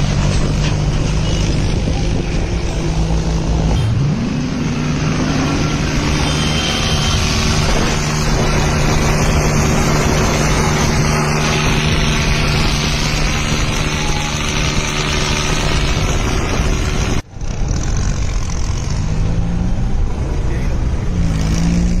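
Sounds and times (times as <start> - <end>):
tractor engine revving: 0.0 - 22.0.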